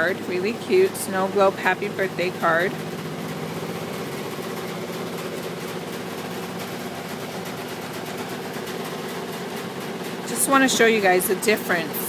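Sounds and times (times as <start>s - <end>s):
washing machine running: 0.0s - 12.0s.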